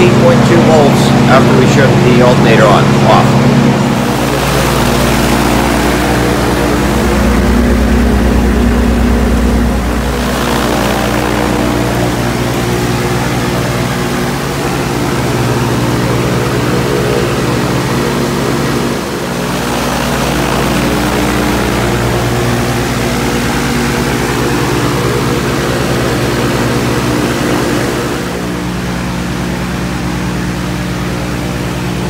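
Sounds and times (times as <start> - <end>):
light aircraft engine and propeller: 0.0 - 32.0.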